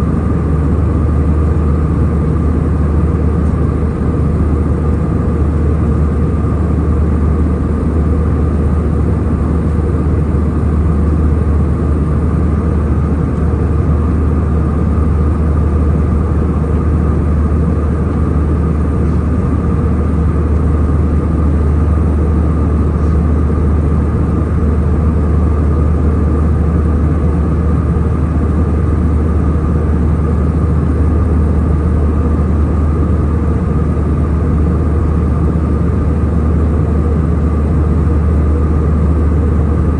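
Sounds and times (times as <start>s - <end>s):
airliner cabin engine hum: 0.0s - 39.9s.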